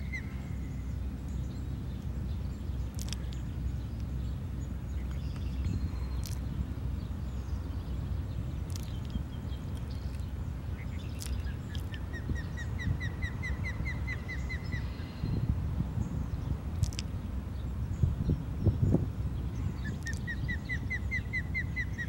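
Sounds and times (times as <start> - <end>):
wind rumble: 0.0 - 22.0.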